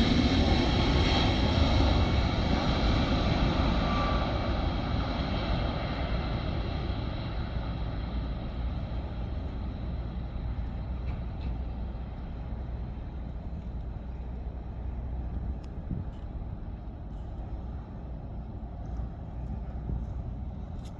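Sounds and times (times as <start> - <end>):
jet engines low rumble: 0.0 - 20.9.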